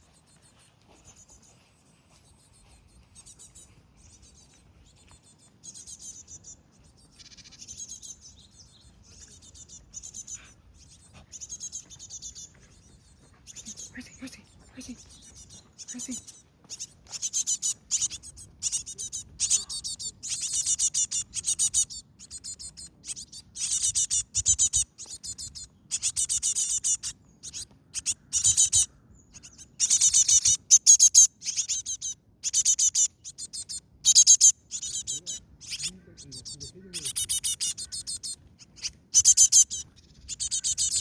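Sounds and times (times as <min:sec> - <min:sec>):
baby birds chirping: 0:00.0 - 0:41.0.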